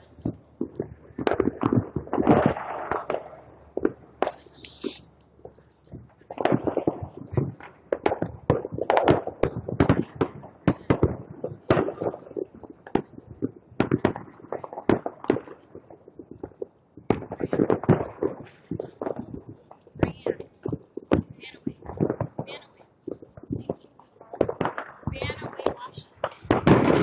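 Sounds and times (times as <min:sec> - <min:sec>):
firecrackers cracking: 0:00.0 - 0:27.0.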